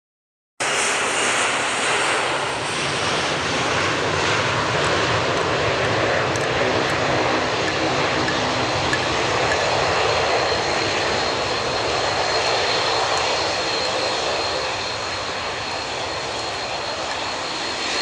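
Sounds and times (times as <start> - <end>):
jet engines rushing: 0.6 - 18.0.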